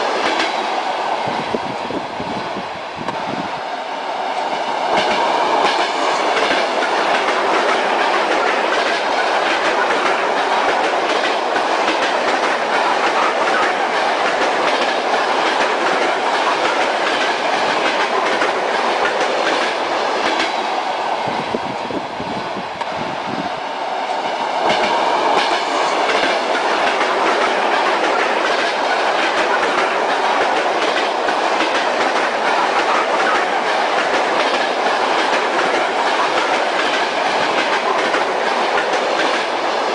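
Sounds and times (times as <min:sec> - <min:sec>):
train wheels clicking over rail joints: 0:00.0 - 0:00.8, 0:04.3 - 0:20.8, 0:24.1 - 0:39.9
railway carriage rolling rumble: 0:00.0 - 0:39.9.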